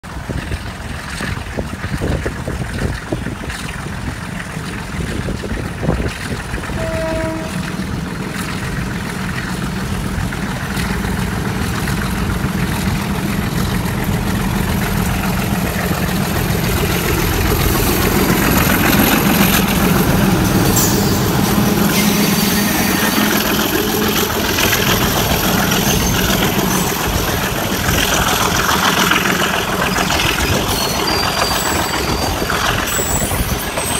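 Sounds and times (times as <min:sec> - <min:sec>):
diesel locomotive engine running: 0:00.0 - 0:33.9
train coaches rolling over rails: 0:00.0 - 0:33.9.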